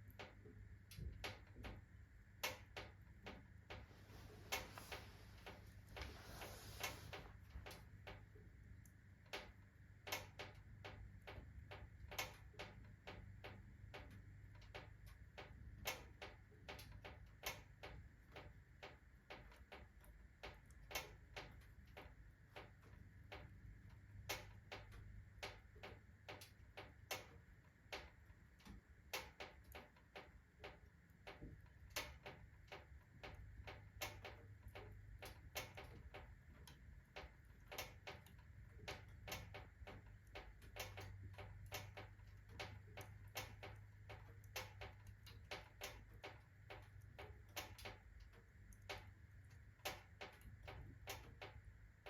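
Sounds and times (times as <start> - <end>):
faint low hum: 0.0 - 52.0
stove ticking and clicking: 0.0 - 52.0.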